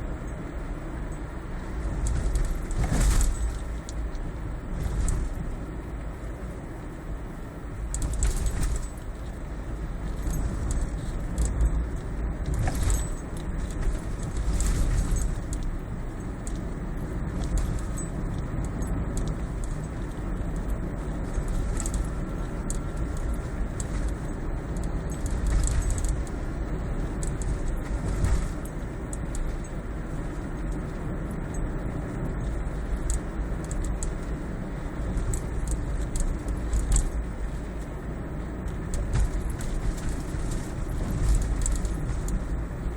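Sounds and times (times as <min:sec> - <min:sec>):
road rumble in car cabin: 0:00.0 - 0:42.9.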